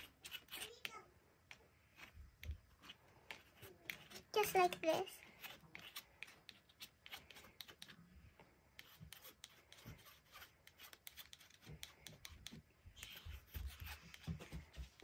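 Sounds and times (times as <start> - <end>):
painting knife scraping paint on paper: 0.0 - 15.0.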